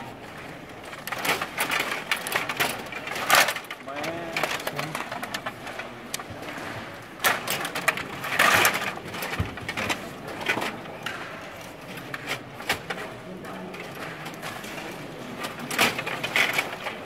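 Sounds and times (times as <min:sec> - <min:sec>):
plastic puck and players clacking: 0:00.2 - 0:17.0.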